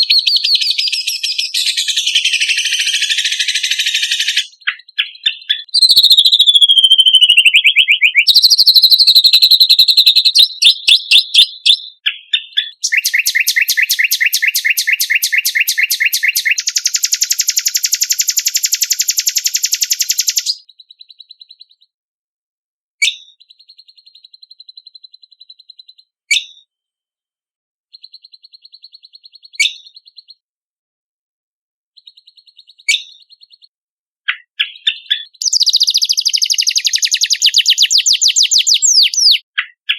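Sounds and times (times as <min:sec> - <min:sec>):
songbird song with trills: 0:00.0 - 0:22.0, 0:23.0 - 0:26.8, 0:27.9 - 0:30.4, 0:31.9 - 0:39.9.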